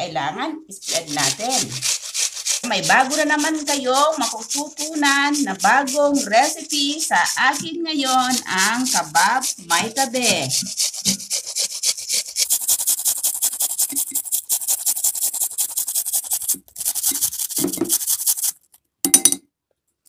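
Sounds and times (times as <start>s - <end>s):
onion grating on metal grater: 0.8s - 18.8s
short scrape: 1.0s - 18.6s.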